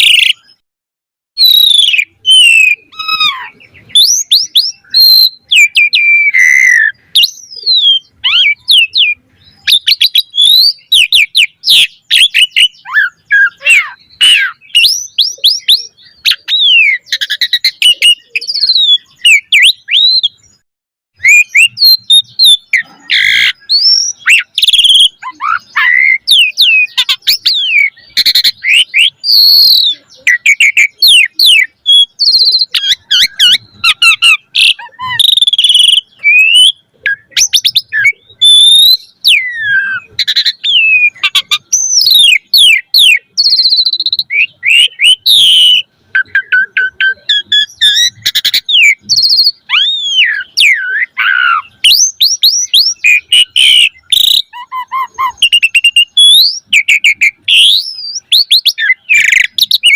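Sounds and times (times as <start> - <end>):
starling singing: 0.0 - 0.6, 1.4 - 20.6, 21.2 - 59.9.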